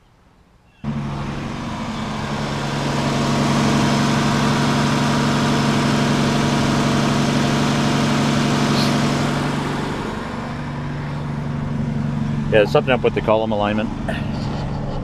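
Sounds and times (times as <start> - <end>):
car engine idling: 0.8 - 15.0.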